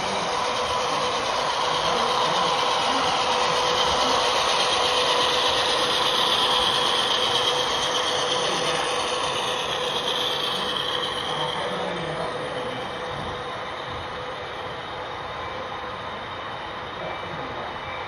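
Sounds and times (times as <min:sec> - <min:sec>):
wheels rolling on track: 0:00.0 - 0:16.2
model train diesel engine hum: 0:00.0 - 0:18.0.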